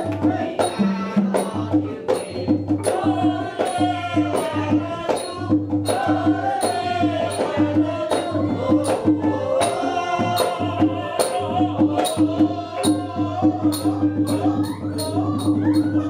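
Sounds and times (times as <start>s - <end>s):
sharp percussion strikes: 0.0s - 16.0s.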